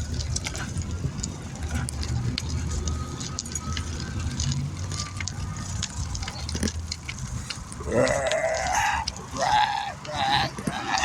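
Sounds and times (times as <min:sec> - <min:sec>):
bicycle clicks and rattles: 0:00.0 - 0:11.0
bicycle rolling rumble: 0:00.0 - 0:11.0.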